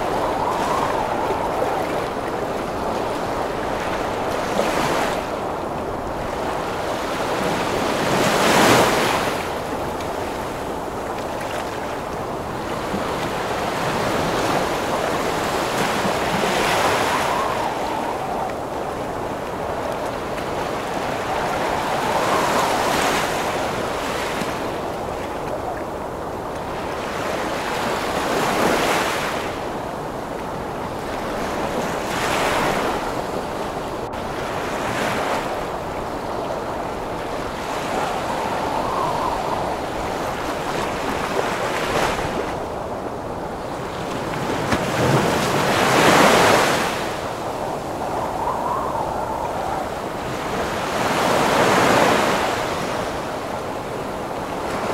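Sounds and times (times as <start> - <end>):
ocean waves breaking: 0.0 - 54.9
storm wind: 0.0 - 54.9.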